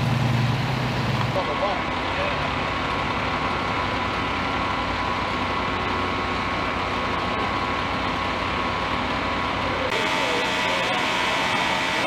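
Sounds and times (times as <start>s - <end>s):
diesel engine idling: 0.0s - 12.0s
steady whine: 0.0s - 12.0s.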